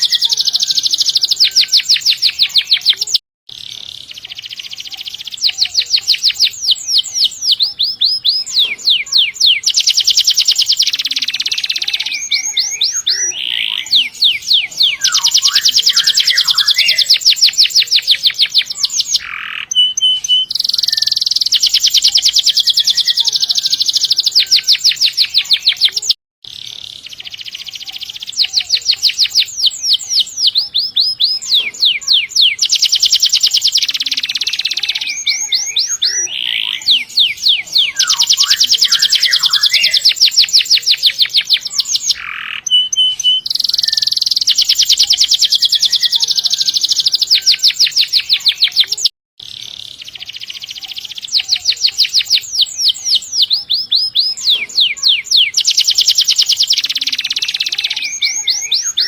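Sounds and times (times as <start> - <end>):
canary singing rolled trills: 0.0 - 59.0.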